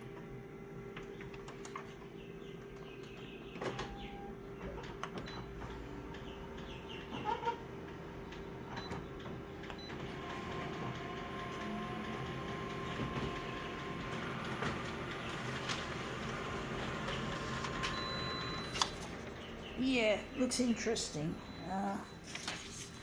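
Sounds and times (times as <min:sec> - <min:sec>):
photocopier whirring: 0:00.0 - 0:23.0.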